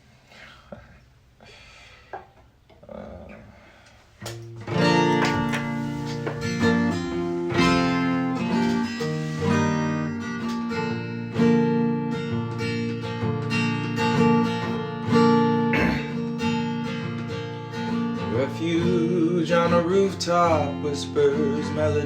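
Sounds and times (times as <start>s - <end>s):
guitar strumming chords: 4.3s - 22.0s.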